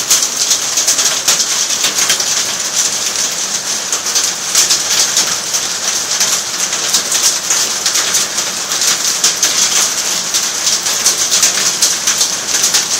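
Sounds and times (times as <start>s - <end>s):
heavy rain falling: 0.0s - 12.9s.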